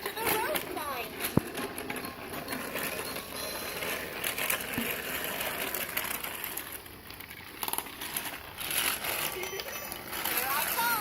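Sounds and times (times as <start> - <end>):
toy train motor whirring: 0.0 - 11.0.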